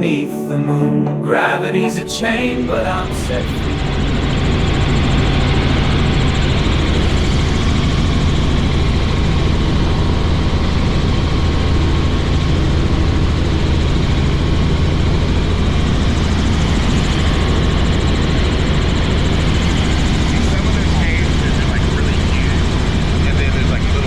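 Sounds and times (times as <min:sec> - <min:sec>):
helicopter rotor and engine: 0:02.7 - 0:24.0.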